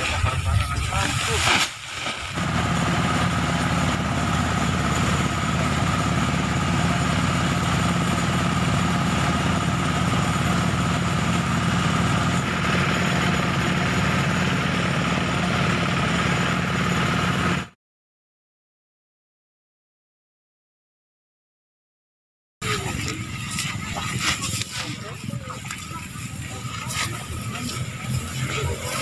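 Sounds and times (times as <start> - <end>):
rice thresher engine running: 0.0 - 17.8, 22.6 - 29.0.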